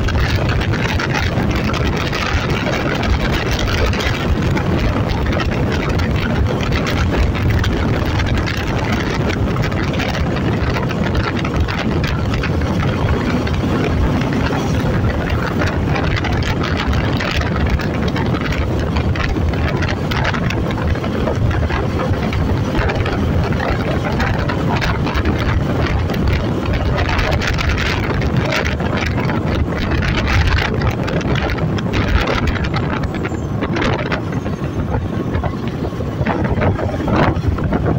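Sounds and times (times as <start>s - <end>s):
motorcycle engine cruising: 0.0s - 37.9s
wind rushing over microphone: 0.0s - 37.9s.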